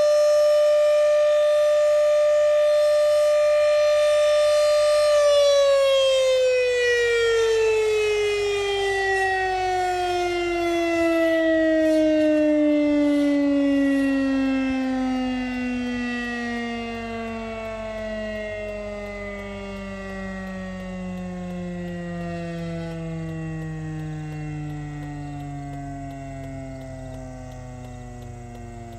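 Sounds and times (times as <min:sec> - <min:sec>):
warning siren winding down: 0:00.0 - 0:28.9.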